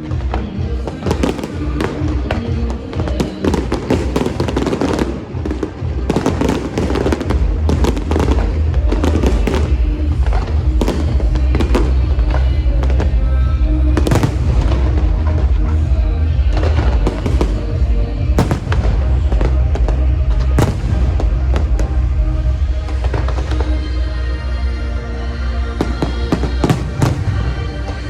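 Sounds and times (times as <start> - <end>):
fireworks bursting and crackling: 0.0 - 23.8, 25.8 - 28.0
loud music with heavy bass: 0.0 - 28.0.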